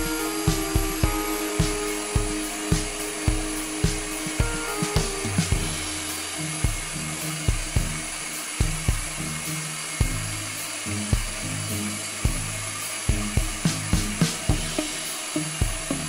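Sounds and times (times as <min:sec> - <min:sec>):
music with thumping beat: 0:00.0 - 0:16.0
robot suction fan whirring: 0:00.0 - 0:16.0.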